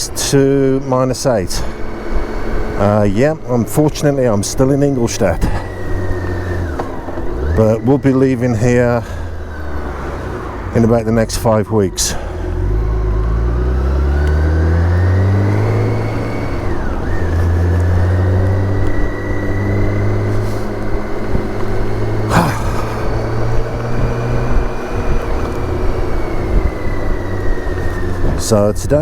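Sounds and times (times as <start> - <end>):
motorcycle engine accelerating: 0.0 - 29.0
wind and road noise: 0.0 - 29.0.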